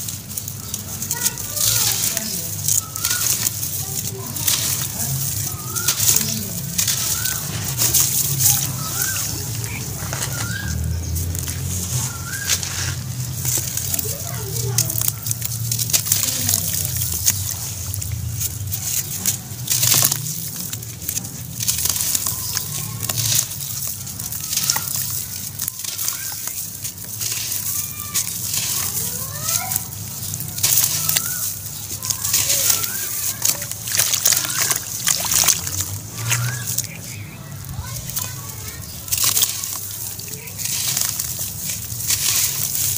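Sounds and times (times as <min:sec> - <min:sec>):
water sloshing: 0:00.0 - 0:42.9
wet ash crunching and squelching: 0:00.0 - 0:42.9.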